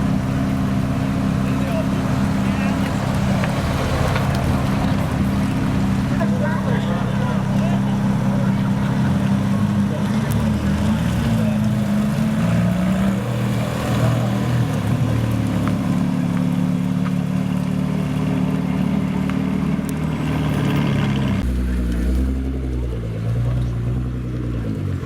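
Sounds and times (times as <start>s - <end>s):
car engines running: 0.0s - 25.0s.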